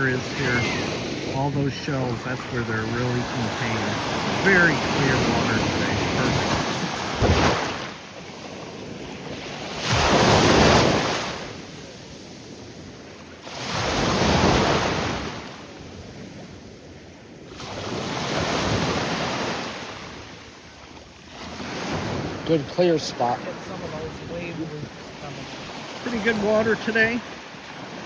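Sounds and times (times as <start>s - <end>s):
small waves breaking on shore: 0.0s - 28.0s.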